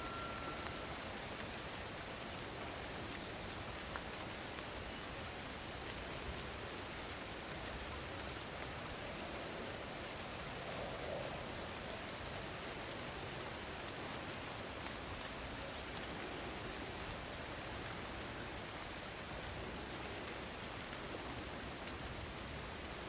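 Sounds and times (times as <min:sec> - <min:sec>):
rain falling in a forest: 0:00.0 - 0:23.0
raindrops ticking: 0:00.0 - 0:23.0.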